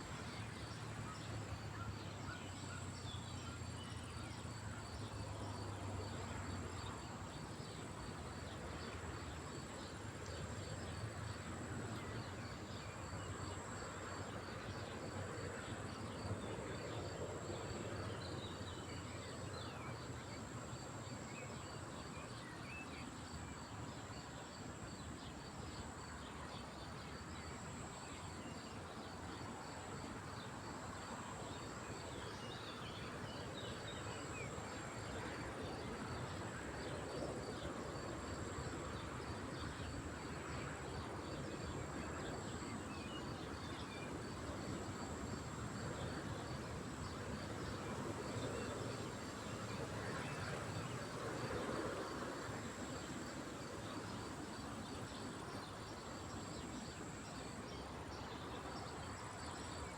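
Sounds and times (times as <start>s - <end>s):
insects chirping evenly: 0.0s - 59.9s.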